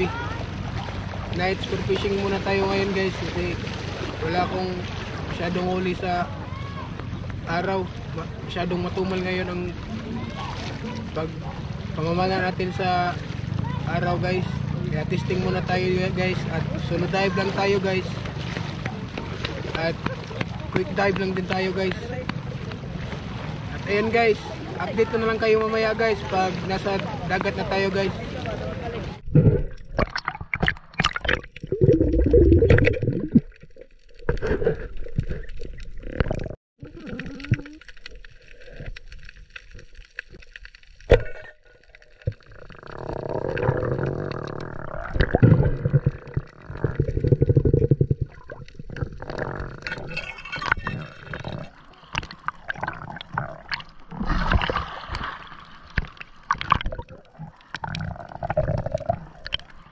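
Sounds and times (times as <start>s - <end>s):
underwater gurgling and sloshing: 0.0s - 59.9s.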